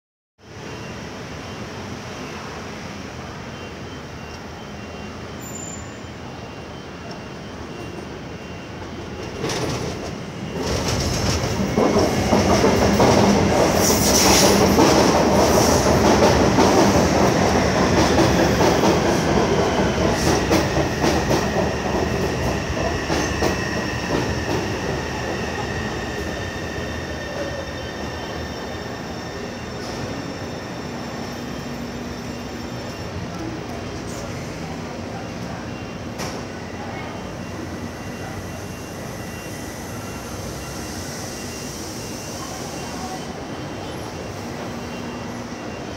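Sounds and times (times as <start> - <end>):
train wheel and rail noise: 0.4 - 45.9.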